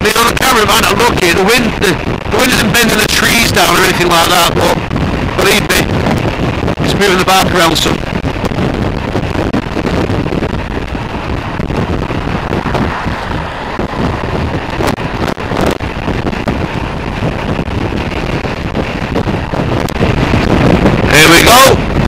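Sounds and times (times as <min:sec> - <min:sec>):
gusty wind on microphone: 0:00.0 - 0:22.0.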